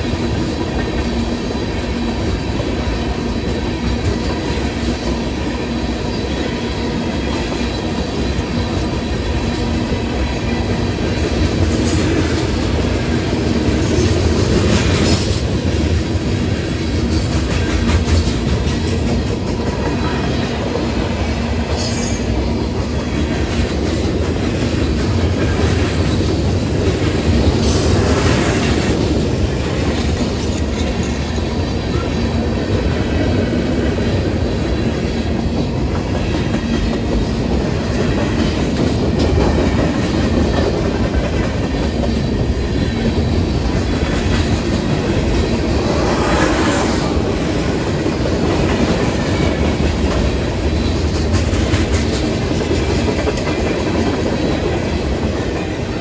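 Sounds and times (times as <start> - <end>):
train wheels rumbling and clacking: 0.0 - 56.0.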